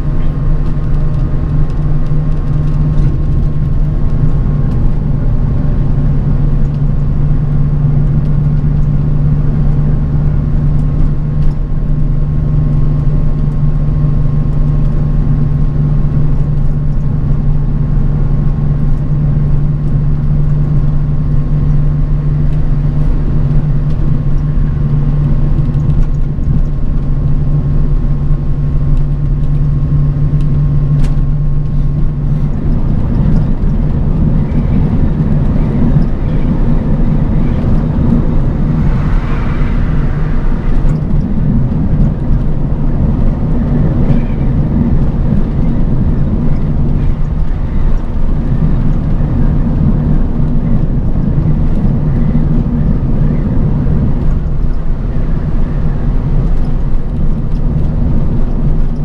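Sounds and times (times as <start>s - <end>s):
bus engine drone: 0.0s - 59.0s
faint steady whine: 0.0s - 59.0s
road noise: 0.0s - 59.0s.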